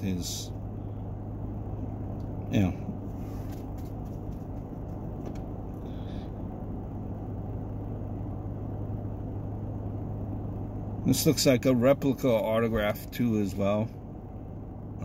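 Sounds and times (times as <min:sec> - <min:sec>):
low hum inside car: 0:00.0 - 0:15.0.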